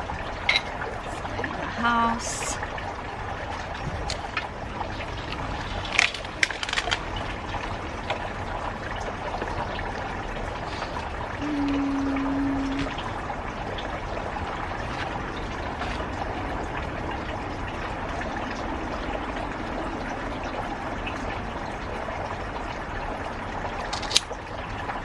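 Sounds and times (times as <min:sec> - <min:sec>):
running water rushing: 0:00.0 - 0:25.0.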